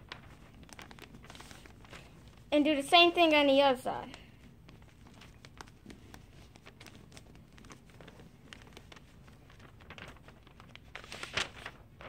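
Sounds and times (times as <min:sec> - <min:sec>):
paper rustling and creasing: 0:00.0 - 0:12.0.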